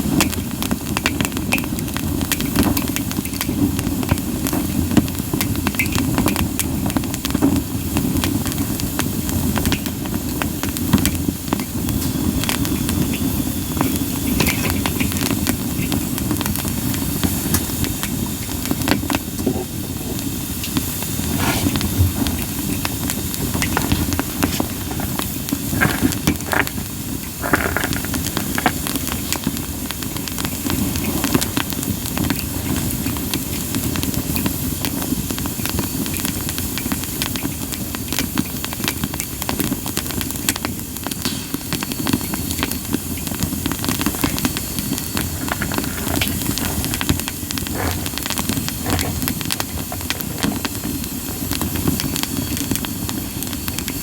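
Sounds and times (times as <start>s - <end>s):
campfire hissing and crackling: 0.0s - 54.0s
loud fire pops: 0.0s - 54.0s.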